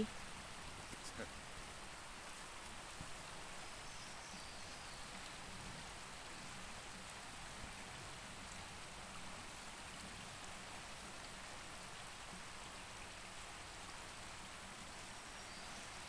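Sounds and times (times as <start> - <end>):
creek flowing: 0.0 - 16.0.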